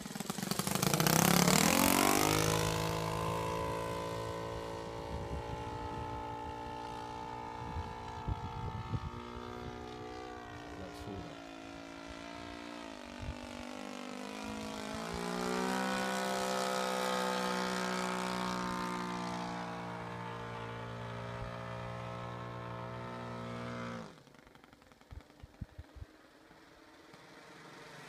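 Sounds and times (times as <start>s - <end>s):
model airplane engine running: 0.0s - 28.0s.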